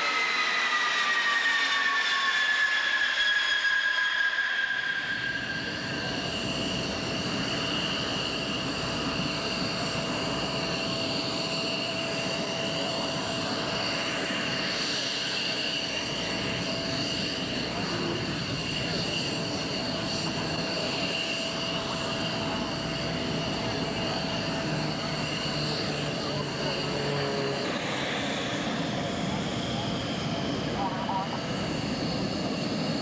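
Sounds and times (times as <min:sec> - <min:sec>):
aircraft engine roar and whine: 0:00.0 - 0:33.0.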